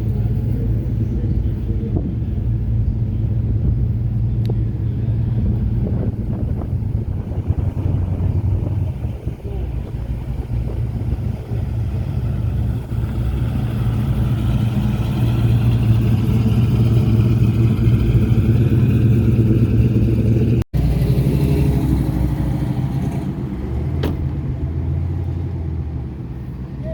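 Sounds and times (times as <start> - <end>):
car engines driving past: 0.0 - 26.9.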